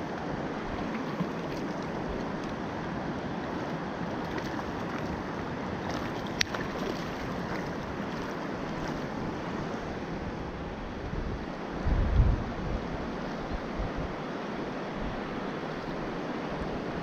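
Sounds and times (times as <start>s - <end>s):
river water rushing: 0.0s - 11.8s, 12.8s - 17.0s.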